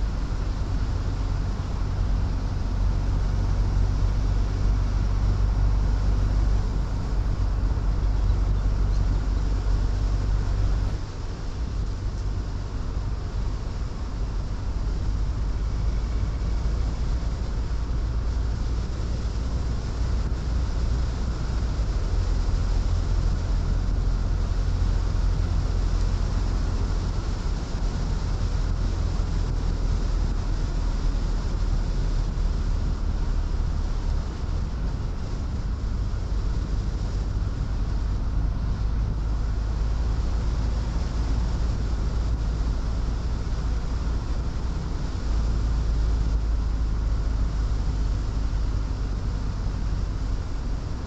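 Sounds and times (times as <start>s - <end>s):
car road and tyre noise: 0.0s - 51.0s.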